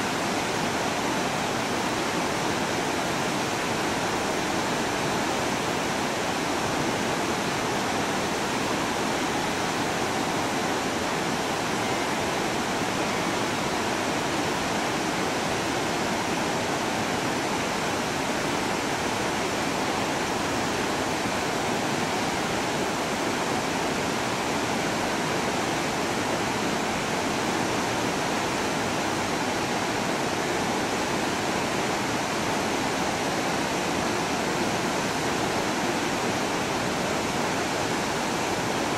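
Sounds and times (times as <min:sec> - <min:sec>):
river rushing: 0:00.0 - 0:38.9.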